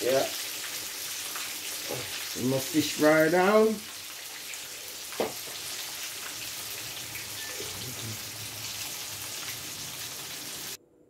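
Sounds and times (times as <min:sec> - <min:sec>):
fish sizzling in hot oil: 0:00.0 - 0:10.8.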